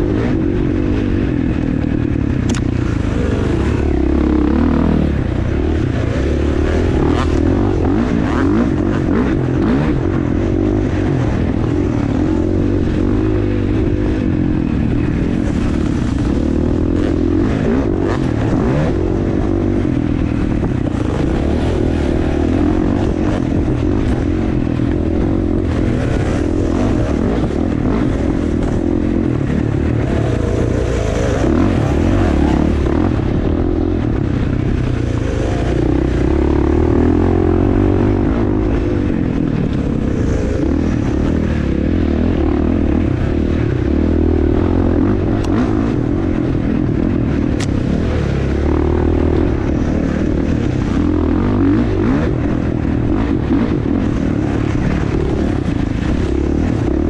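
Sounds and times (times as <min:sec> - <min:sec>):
dirt bike engine revving: 0:00.0 - 0:57.0
steady low rumble: 0:00.0 - 0:57.0.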